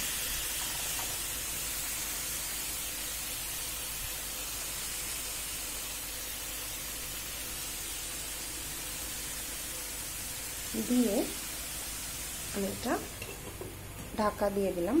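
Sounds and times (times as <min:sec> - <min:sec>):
chicken sizzling in a frying pan: 0:00.0 - 0:15.0.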